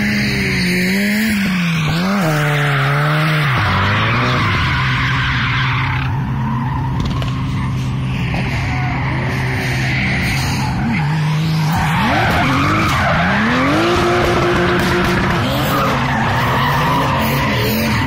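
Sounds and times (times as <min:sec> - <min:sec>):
car engine revving: 0:00.0 - 0:18.0
tyres screeching: 0:02.3 - 0:18.0.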